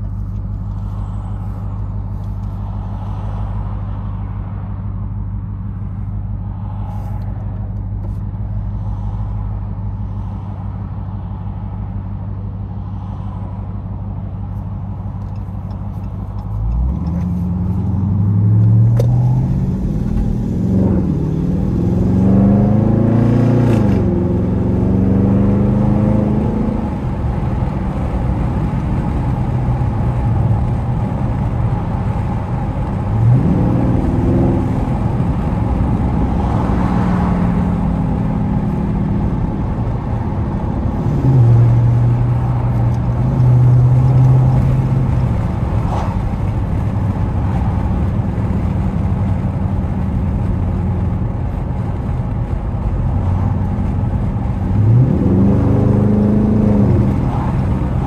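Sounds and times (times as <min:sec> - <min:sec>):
car engine droning in cabin: 0:00.0 - 0:58.0.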